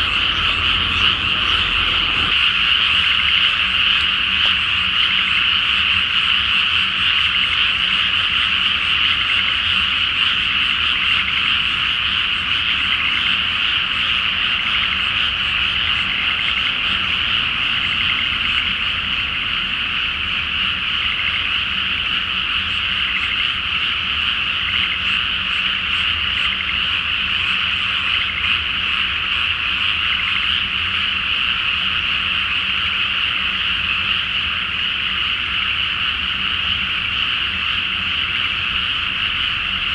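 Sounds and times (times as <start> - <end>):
chorus of frogs trilling: 0.0 - 39.9.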